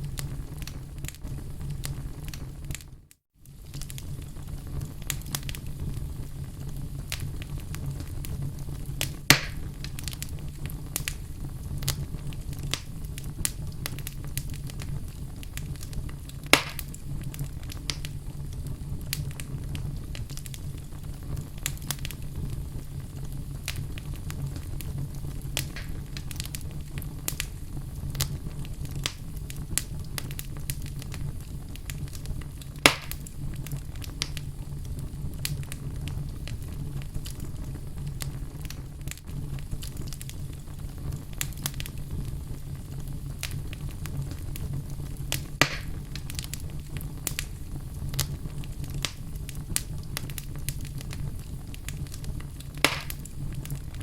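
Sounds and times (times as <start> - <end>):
fire pops: 0.0 - 54.0
low rumble of fire: 0.0 - 54.0
wood fire crackling: 0.0 - 54.0.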